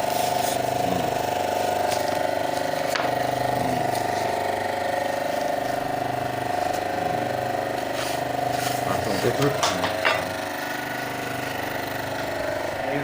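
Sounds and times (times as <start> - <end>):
hydraulic pump whining hum: 0.0 - 13.0.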